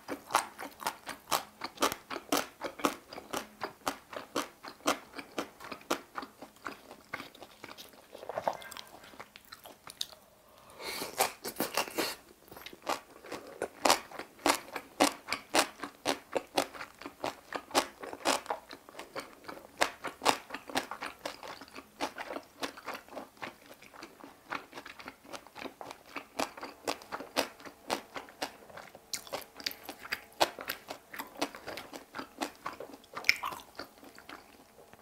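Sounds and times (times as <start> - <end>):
wet crunching chewing: 0.1 - 10.2, 11.1 - 35.0.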